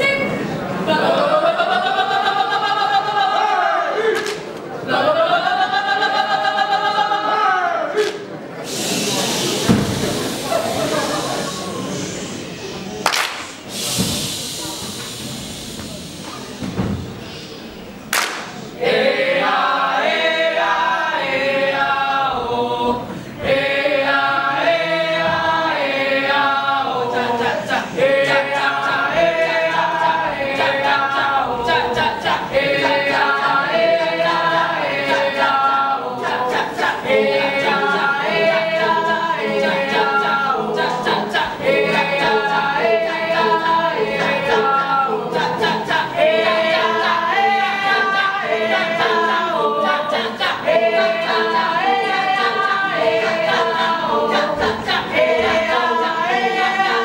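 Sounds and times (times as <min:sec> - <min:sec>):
group singing and chanting: 0:00.0 - 0:57.0.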